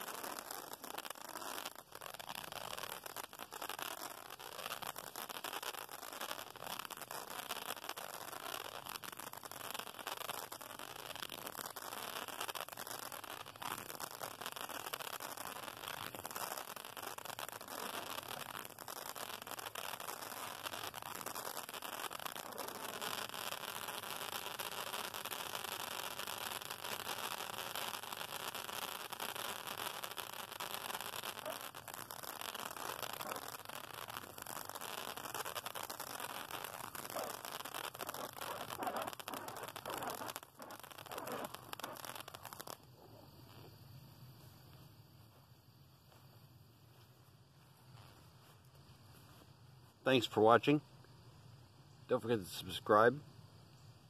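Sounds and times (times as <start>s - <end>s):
crackling spray of sparks: 0.0s - 50.8s, 51.4s - 54.0s.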